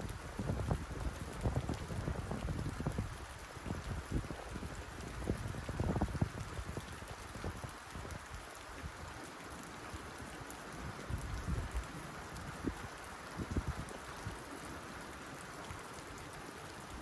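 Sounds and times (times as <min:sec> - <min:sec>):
rain on a tin roof: 0:00.0 - 0:17.0.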